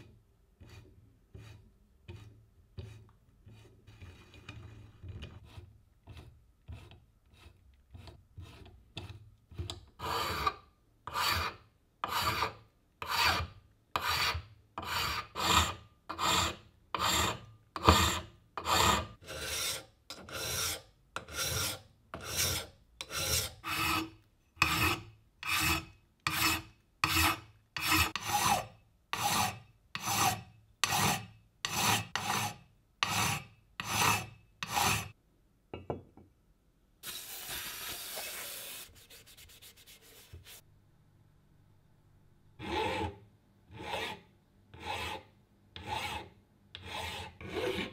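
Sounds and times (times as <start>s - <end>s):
hand file rasping on metal: 0.6s - 9.1s, 10.0s - 35.2s, 42.6s - 47.9s.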